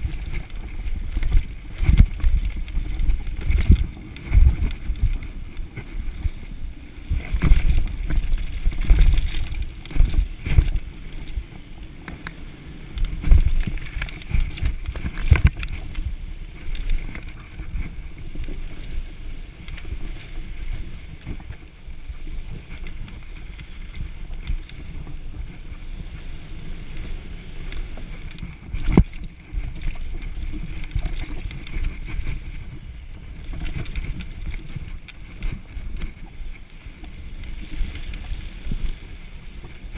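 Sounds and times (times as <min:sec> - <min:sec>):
bike knocking and rattling: 0:00.0 - 0:39.9
bike tyres rumbling on dirt: 0:00.0 - 0:39.9
wind on microphone: 0:00.0 - 0:39.9.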